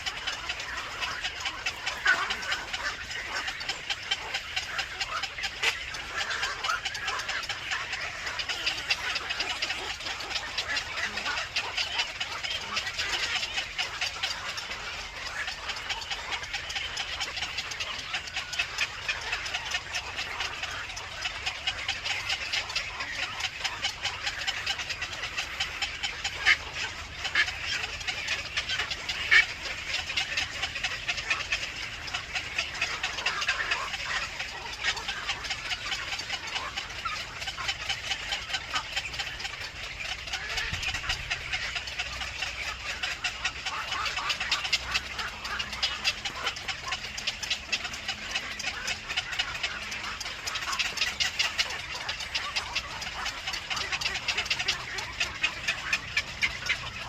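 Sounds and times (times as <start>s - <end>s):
birds chirping and chattering: 0.0s - 57.0s.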